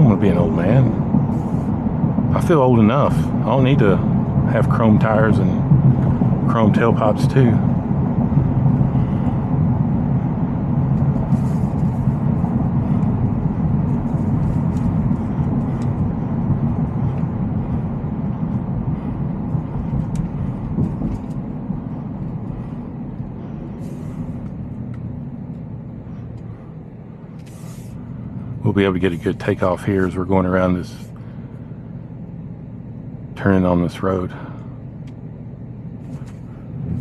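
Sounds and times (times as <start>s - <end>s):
road noise: 0.0s - 37.0s
truck engine running: 0.0s - 37.0s.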